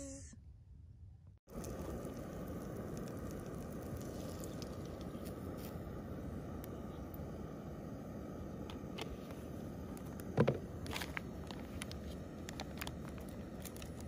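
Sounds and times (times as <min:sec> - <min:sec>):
camping stove hissing: 0:01.5 - 0:14.0.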